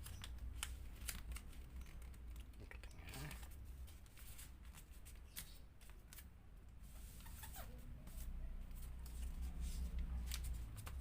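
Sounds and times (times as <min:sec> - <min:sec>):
paper being folded and creased: 0:00.0 - 0:06.3, 0:06.9 - 0:11.0.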